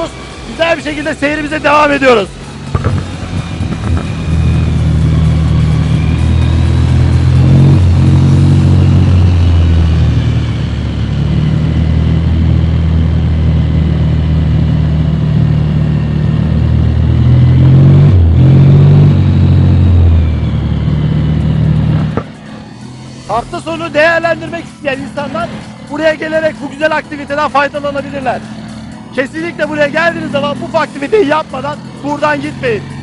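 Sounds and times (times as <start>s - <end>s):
atv engine revving: 0.0s - 33.0s.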